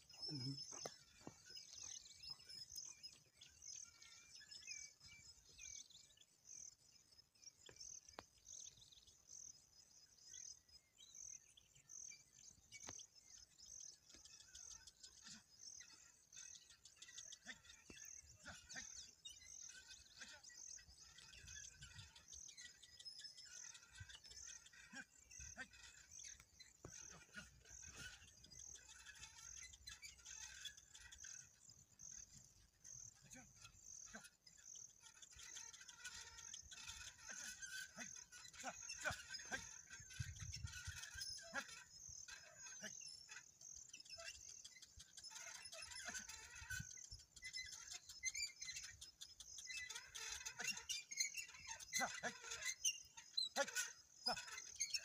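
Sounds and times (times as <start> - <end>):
bird chirps: 0.0 - 55.0.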